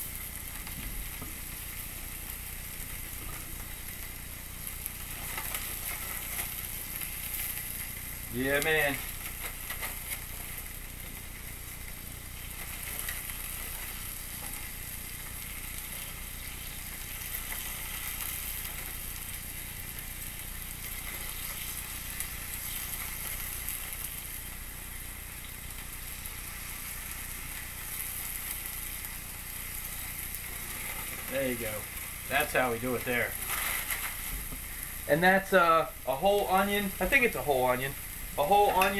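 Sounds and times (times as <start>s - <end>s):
steaks sizzling in grill pan: 0.0s - 38.9s.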